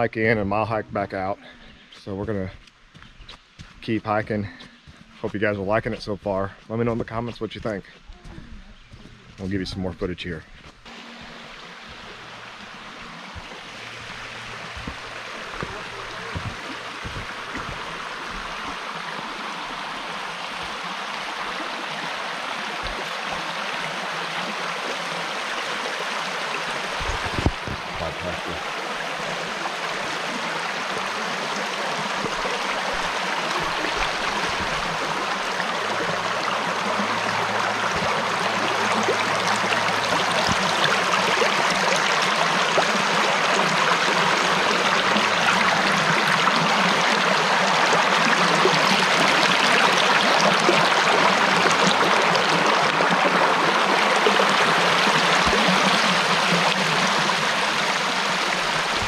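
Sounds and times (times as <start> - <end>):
creek water rushing over rocks: 10.6 - 59.0.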